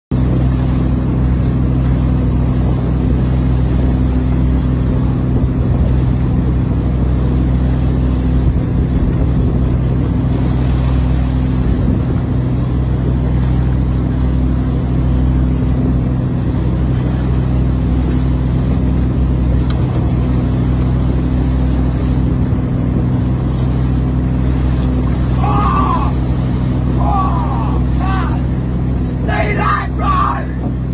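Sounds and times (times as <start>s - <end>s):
boat engine droning: 0.1s - 30.9s.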